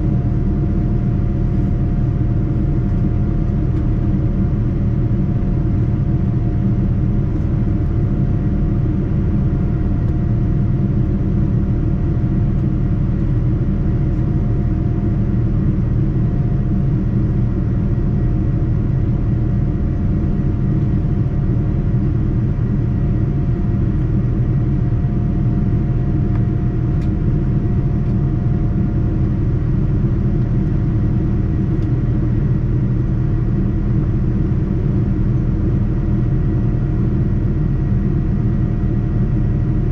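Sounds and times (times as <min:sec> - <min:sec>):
airplane engines and airflow rumble: 0:00.0 - 0:39.9.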